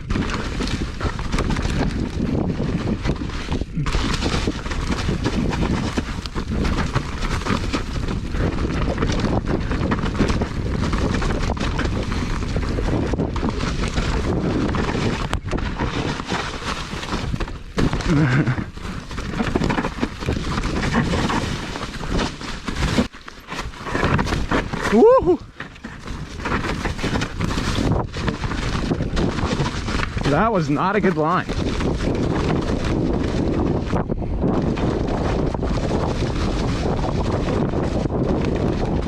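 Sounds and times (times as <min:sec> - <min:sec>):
bike rattling over bumps: 0:00.0 - 0:39.0
tyres rolling on dirt and rock: 0:00.0 - 0:39.0
wind on microphone: 0:00.0 - 0:39.0.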